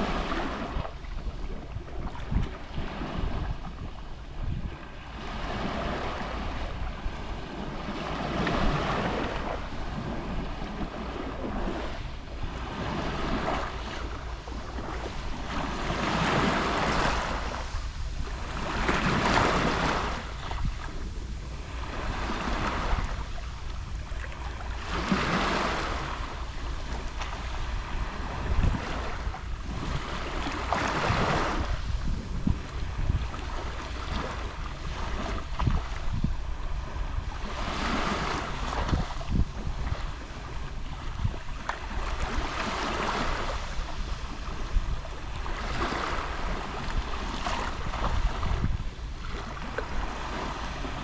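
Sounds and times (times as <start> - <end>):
sea waves lapping on shore: 0.0 - 51.0
wind rumble on microphone: 0.0 - 51.0.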